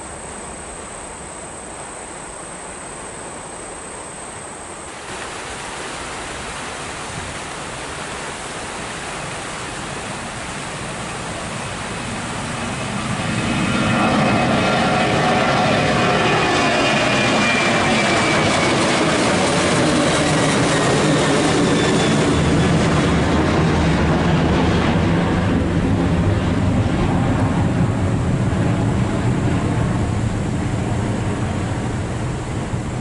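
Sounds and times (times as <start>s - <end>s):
airliner engines passing: 4.3s - 33.0s.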